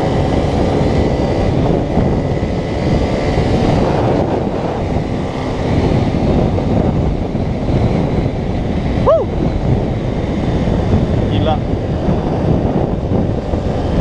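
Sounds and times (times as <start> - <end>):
motorcycle engine rumbling: 0.0 - 14.0
wind noise on microphone: 0.0 - 14.0.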